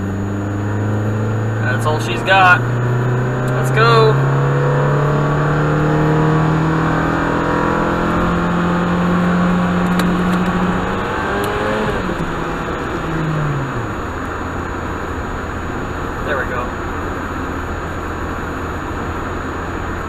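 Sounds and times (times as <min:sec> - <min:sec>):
car engine under full throttle: 0:00.0 - 0:20.0.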